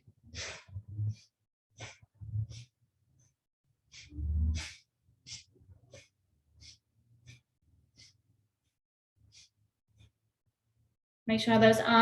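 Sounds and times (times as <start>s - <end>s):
woman breathing rapidly: 0.0s - 10.2s.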